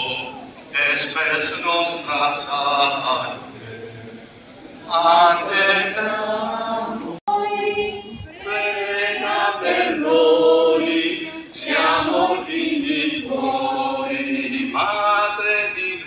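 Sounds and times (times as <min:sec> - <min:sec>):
group singing a hymn: 0:00.0 - 0:02.1, 0:04.8 - 0:16.0.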